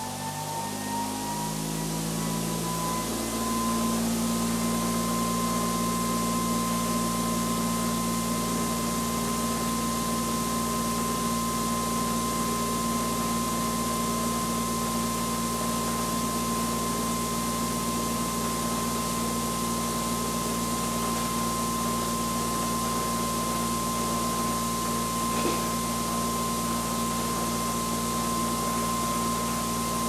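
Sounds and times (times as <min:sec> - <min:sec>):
generator humming with high whine: 0:00.0 - 0:30.0.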